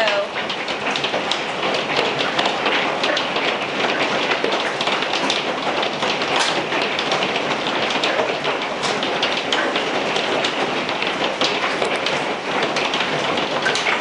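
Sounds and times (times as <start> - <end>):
hailstones clattering: 0.0 - 14.0.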